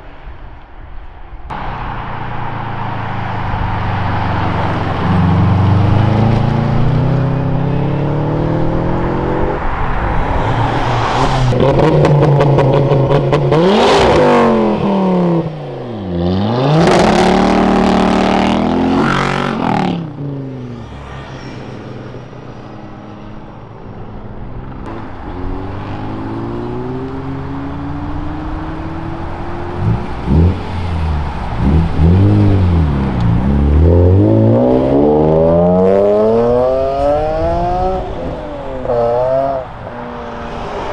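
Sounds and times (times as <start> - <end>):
car engines revving: 1.5 - 40.9.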